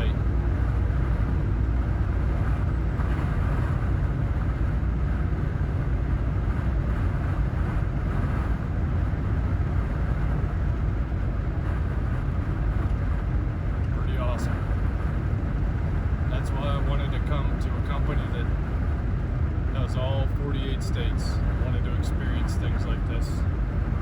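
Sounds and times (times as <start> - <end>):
road noise: 0.0 - 24.0
truck engine drone: 0.0 - 24.0.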